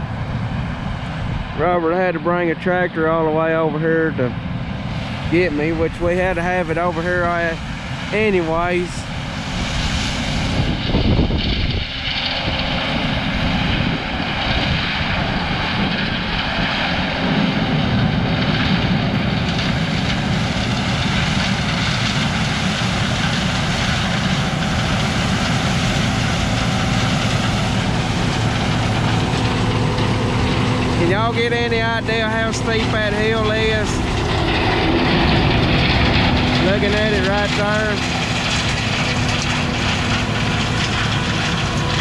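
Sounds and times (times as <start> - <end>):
farm vehicle engine humming: 0.0 - 42.0.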